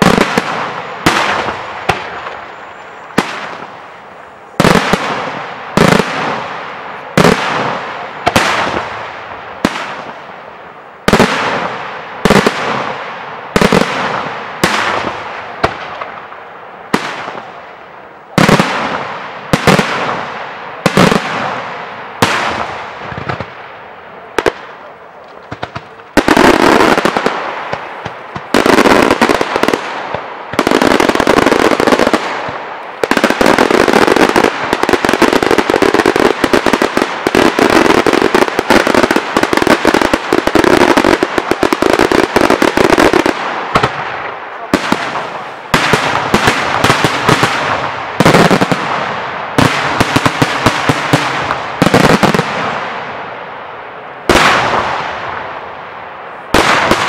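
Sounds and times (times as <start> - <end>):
firework crackling volleys: 0.0 - 57.0.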